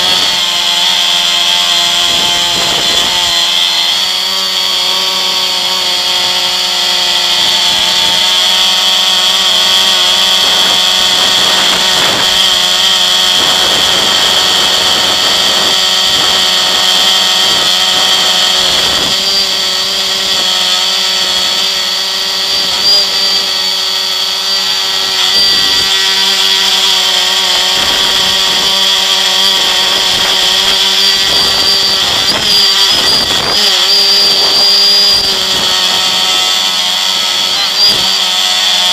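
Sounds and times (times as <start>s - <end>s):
drone motors and propellers whining: 0.0s - 38.9s.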